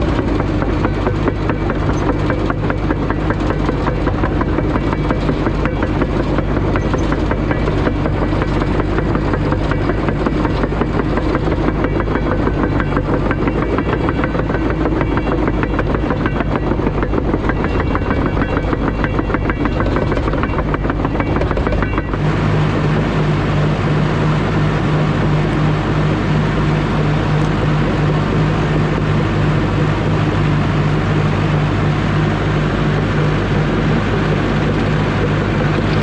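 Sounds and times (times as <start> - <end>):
diesel engine running: 0.0 - 36.0
steel tracks clattering: 0.0 - 36.0.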